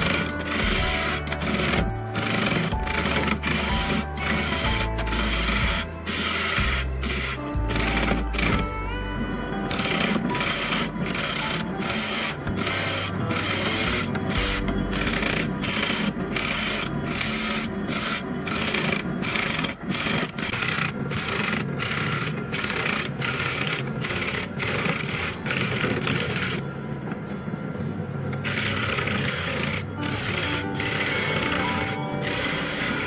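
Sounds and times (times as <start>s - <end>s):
gouge scraping spinning wood: 0.0s - 26.6s, 28.3s - 33.0s
wood lathe humming: 0.0s - 27.2s, 28.3s - 33.0s.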